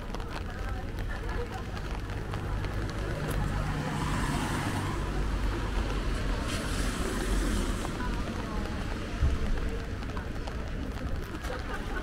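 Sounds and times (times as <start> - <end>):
car tyres hissing on wet road: 0.6 - 11.9.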